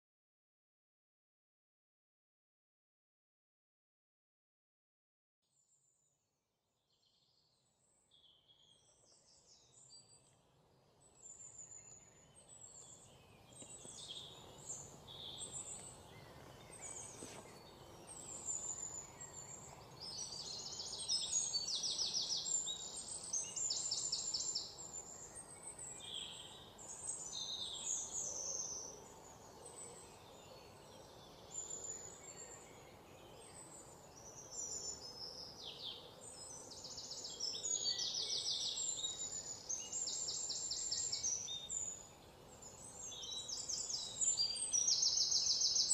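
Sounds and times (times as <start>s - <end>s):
songbirds chirping and trilling: 6.9s - 45.9s
faint steady hiss: 8.6s - 45.9s.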